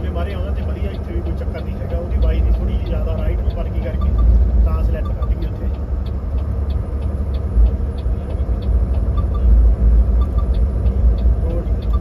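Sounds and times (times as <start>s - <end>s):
truck rumbling: 0.0s - 12.0s.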